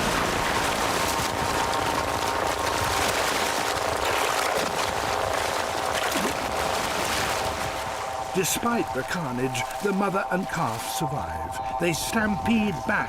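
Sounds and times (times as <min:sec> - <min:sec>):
river water splashing and churning: 0:00.0 - 0:13.0.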